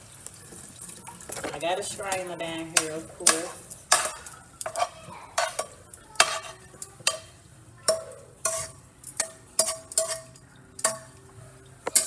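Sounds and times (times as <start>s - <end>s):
spatula scraping frying pan: 1.2s - 11.2s.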